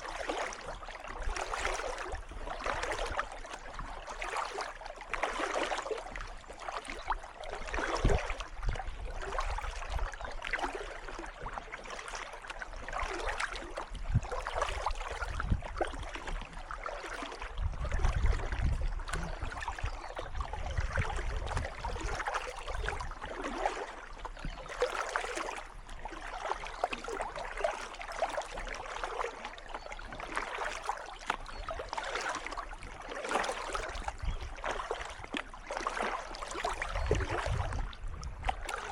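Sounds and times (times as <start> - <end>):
kayak paddle splashing: 0.0 - 38.9.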